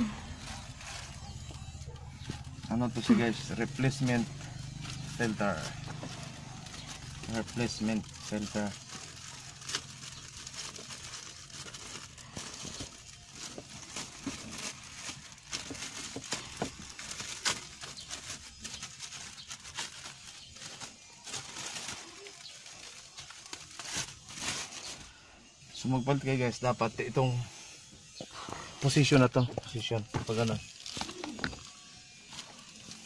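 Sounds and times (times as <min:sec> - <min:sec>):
plastic wrapping crinkling: 0:00.0 - 0:33.0.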